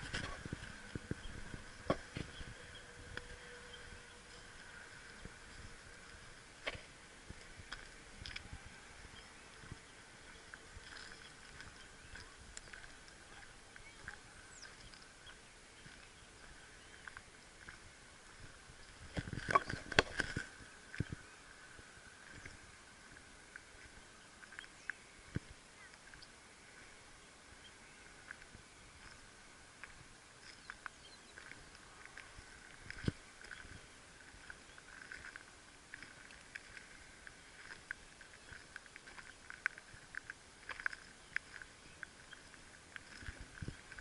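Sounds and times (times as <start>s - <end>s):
small clicks and crackles: 0.0s - 26.9s, 28.0s - 44.0s.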